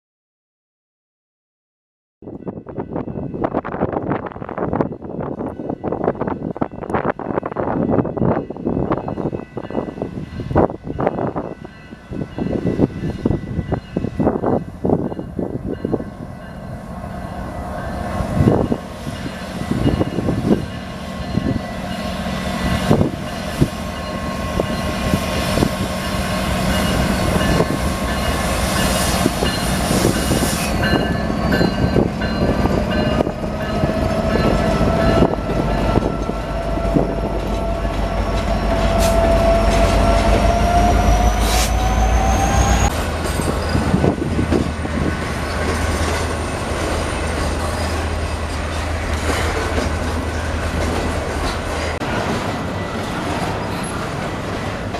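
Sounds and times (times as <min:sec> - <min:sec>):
train low rumble: 0:02.2 - 0:54.9.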